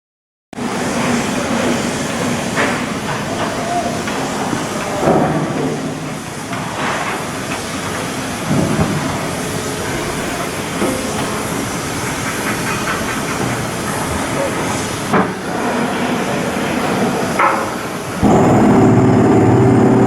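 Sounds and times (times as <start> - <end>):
machinery hissing: 0.6 - 20.0.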